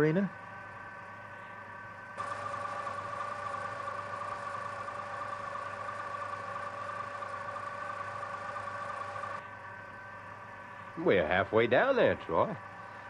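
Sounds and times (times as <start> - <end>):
elevator machine hum: 0.0 - 13.0.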